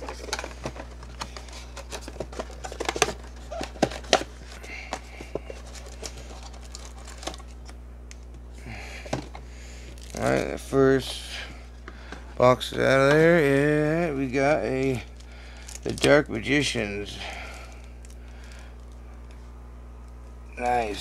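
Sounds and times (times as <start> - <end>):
packaging rustling: 0.0 - 8.2, 9.1 - 13.8, 14.8 - 19.0
steady low hum: 0.0 - 21.0.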